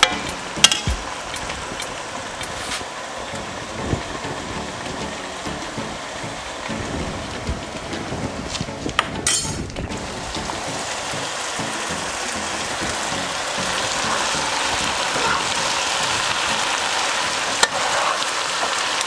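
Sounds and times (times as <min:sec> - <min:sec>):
food sizzling in a pot: 0:00.0 - 0:19.0.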